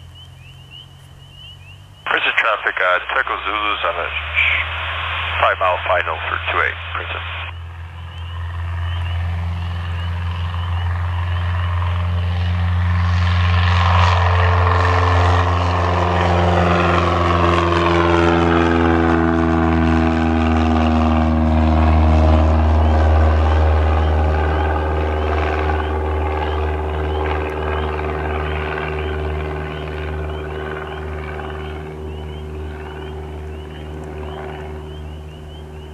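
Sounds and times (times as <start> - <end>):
propeller plane engine droning: 0.0 - 35.9.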